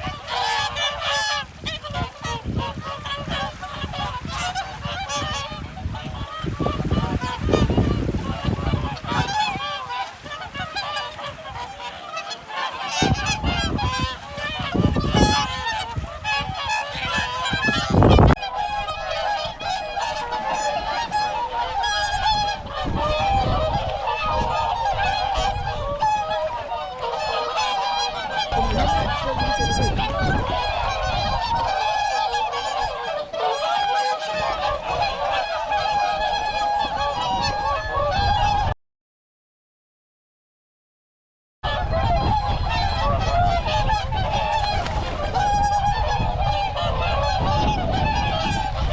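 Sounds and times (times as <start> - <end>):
swans honking: 0.0 - 38.6, 41.7 - 48.9.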